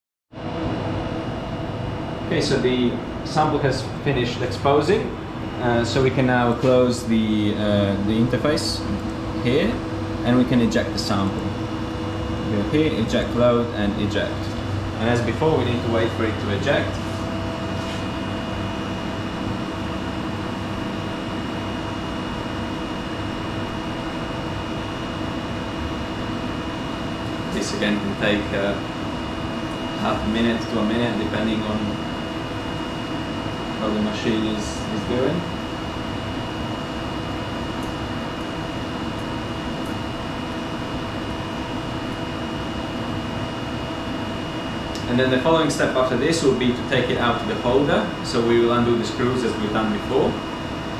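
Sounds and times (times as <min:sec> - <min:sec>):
machinery hum: 0:00.4 - 0:50.9.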